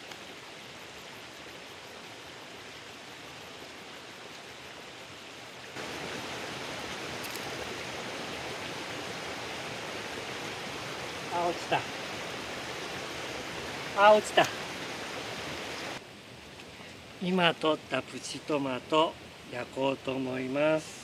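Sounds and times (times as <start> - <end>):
outdoor hissing background noise: 0.0 - 21.0.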